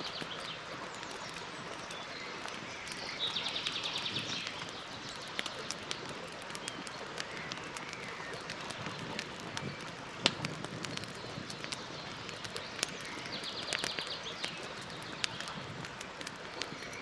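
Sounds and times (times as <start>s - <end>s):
campfire hiss: 0.0s - 17.0s
wood crackling and popping: 0.0s - 17.0s.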